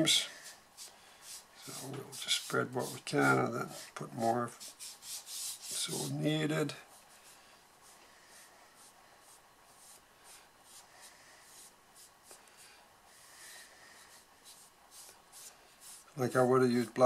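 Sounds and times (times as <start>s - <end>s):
brush rubbing on paper: 0.0s - 17.0s.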